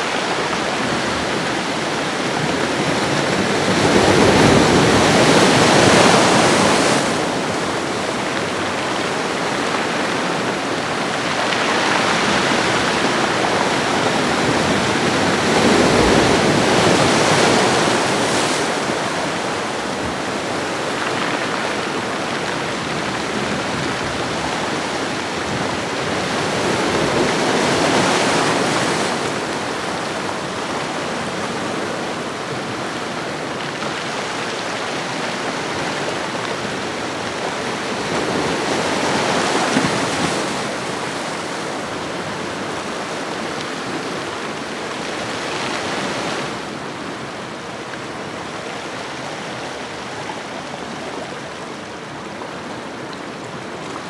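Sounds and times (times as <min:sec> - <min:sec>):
ocean waves washing ashore: 0:00.0 - 0:54.0.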